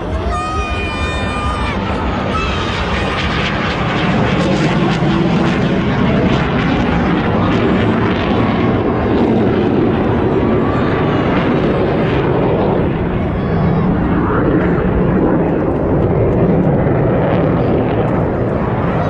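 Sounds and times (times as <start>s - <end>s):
airplane engine flying past: 0.0s - 19.0s.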